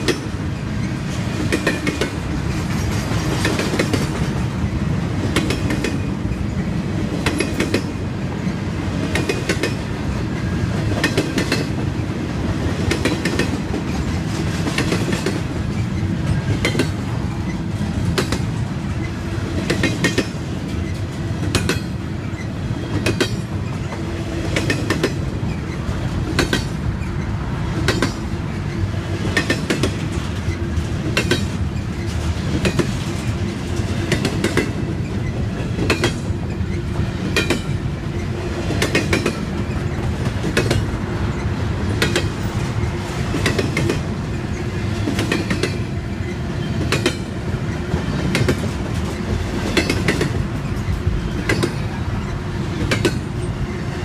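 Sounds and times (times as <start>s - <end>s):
wheels clicking over rail joints: 0.0s - 53.8s
steel wheels rumbling on rails: 0.0s - 54.0s.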